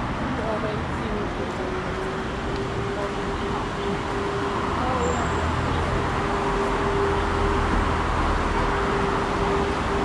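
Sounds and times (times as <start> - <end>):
road traffic hum: 0.0 - 10.0
rumble of passing vehicles: 0.0 - 10.0.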